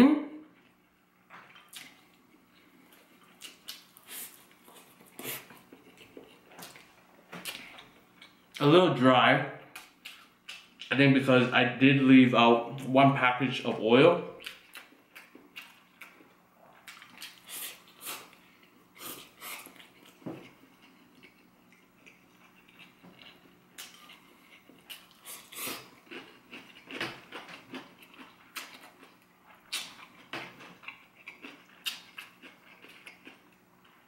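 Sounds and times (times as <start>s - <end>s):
person chewing and lip-smacking: 1.5s - 8.6s, 9.7s - 10.9s, 14.4s - 34.0s.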